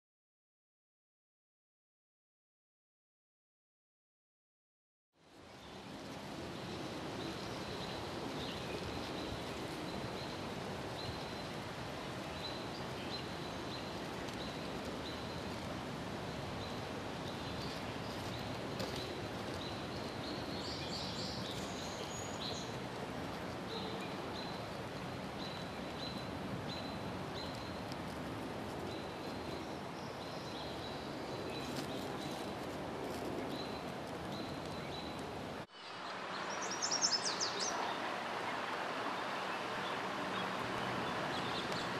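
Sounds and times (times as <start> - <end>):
outdoor background noise: 5.2 - 41.9.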